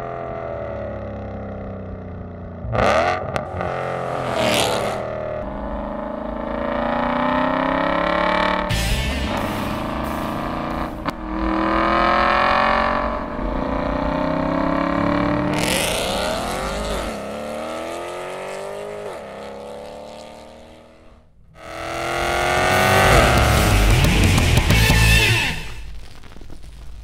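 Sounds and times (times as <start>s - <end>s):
car engine revving hard: 2.6s - 25.7s.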